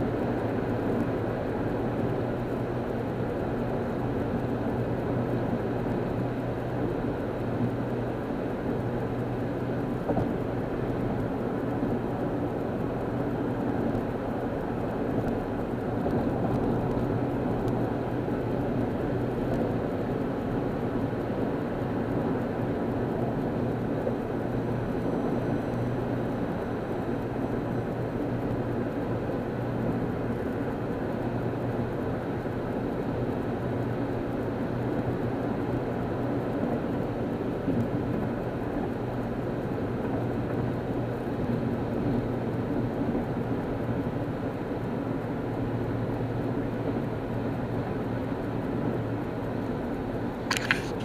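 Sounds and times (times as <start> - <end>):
engine and tyre hum: 0.0 - 51.0.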